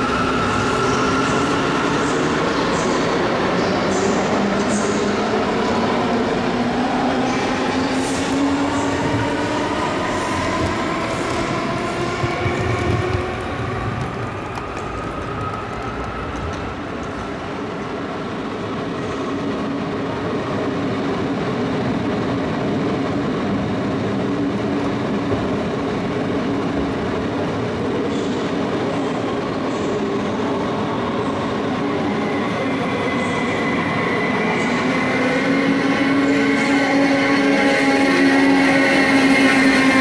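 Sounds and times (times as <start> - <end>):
train wheels rumbling on track: 0.0 - 40.0
train whine: 0.0 - 40.0.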